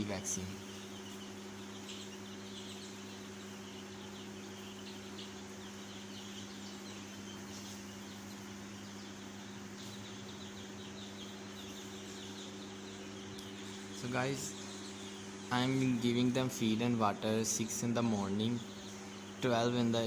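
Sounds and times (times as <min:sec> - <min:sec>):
chicks peeping: 0:00.0 - 0:20.0
low electrical hum: 0:00.0 - 0:20.0.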